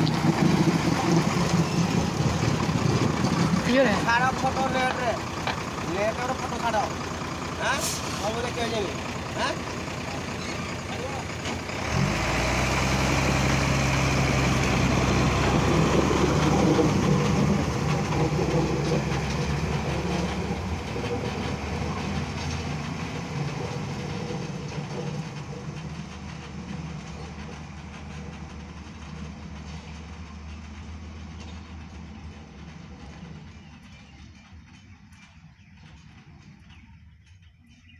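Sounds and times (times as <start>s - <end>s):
diesel truck engine: 0.0s - 37.9s.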